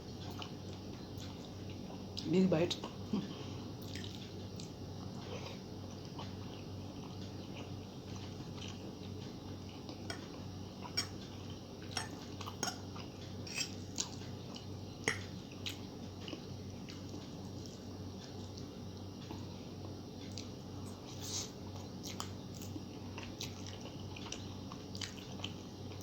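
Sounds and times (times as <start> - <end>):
person chewing noodles: 0.1 - 2.2, 3.8 - 26.0.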